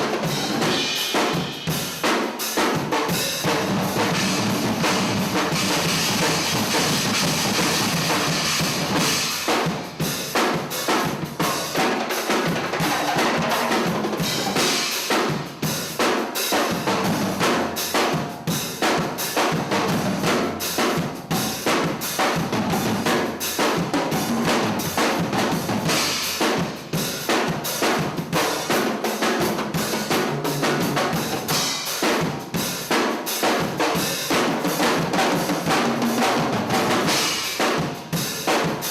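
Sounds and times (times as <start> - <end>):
bass drum and snare strokes: 0.0 - 38.9.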